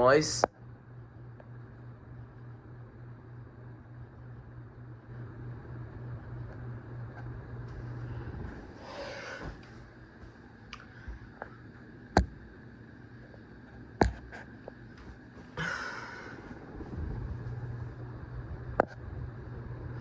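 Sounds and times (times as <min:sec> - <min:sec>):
ceiling fan humming: 0:00.0 - 0:20.0.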